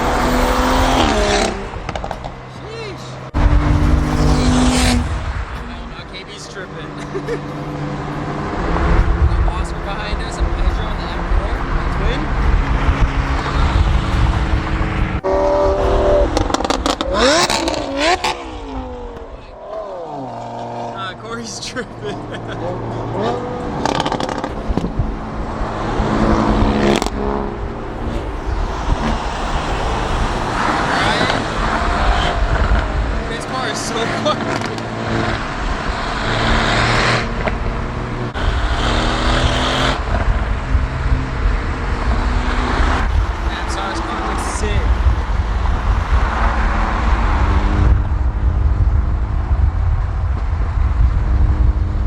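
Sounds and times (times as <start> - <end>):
car engine accelerating: 0.0 - 52.0
wind and road noise: 0.0 - 52.0.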